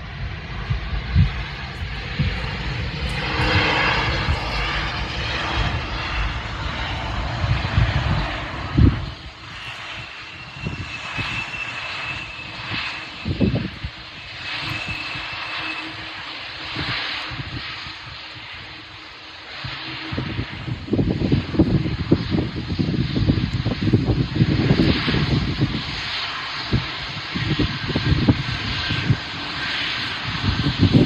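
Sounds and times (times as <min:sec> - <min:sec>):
high engine whine: 0:00.0 - 0:31.0
jet engines rushing: 0:00.0 - 0:31.0.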